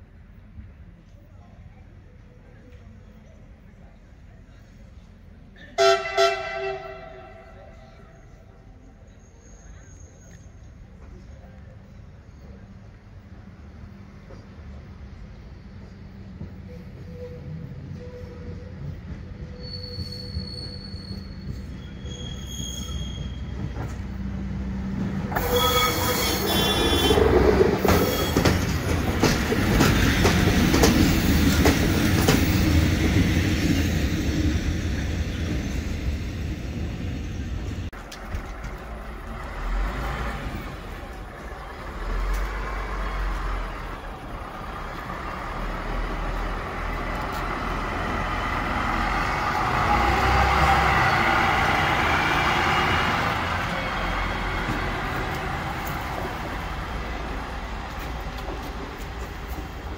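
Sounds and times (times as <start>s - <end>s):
diesel railcar passing: 0.0s - 59.9s
wheels squealing on rails: 7.5s - 12.9s, 15.3s - 59.9s.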